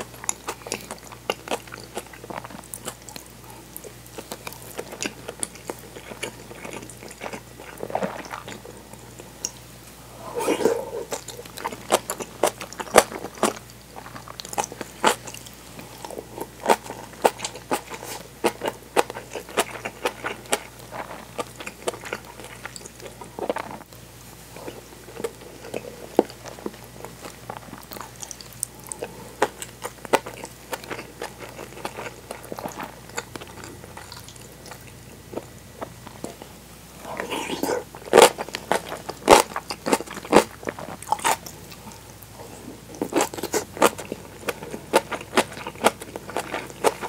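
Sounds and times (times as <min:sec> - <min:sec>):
close-up chewing: 0:00.0 - 0:47.0.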